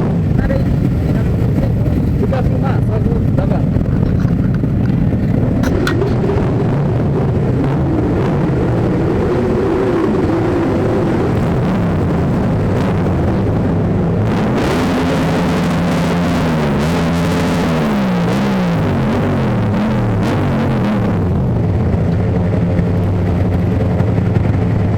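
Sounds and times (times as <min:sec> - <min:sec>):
motorcycle engines revving: 0:00.0 - 0:24.9.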